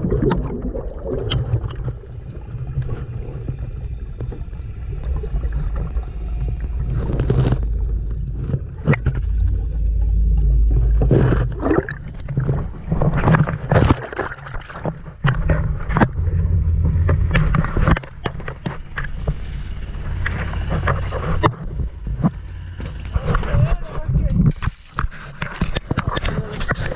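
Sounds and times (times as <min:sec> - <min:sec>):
low rumble: 0:00.0 - 0:26.9
water sloshing and gurgling: 0:00.0 - 0:26.9
water splashes: 0:00.0 - 0:26.9.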